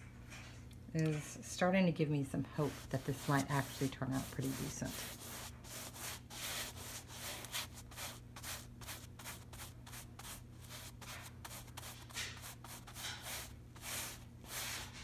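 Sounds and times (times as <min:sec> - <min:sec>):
paintbrush scrubbing fabric: 0:02.4 - 0:15.0.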